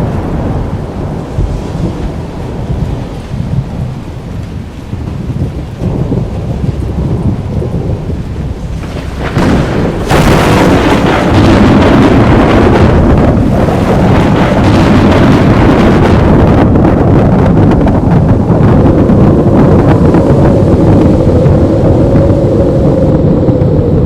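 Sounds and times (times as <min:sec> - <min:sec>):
rain: 0:00.0 - 0:24.0
thunder rumbling: 0:00.0 - 0:24.0.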